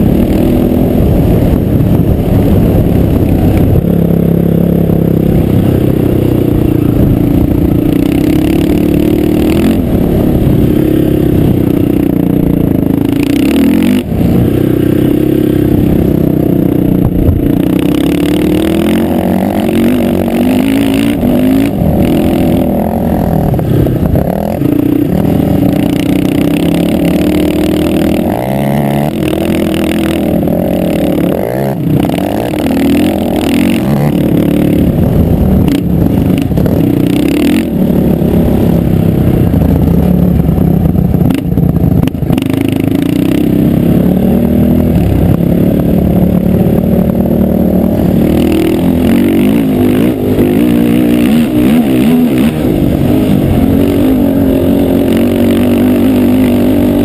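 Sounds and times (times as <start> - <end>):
quad engines idling and revving: 0.0 - 57.0.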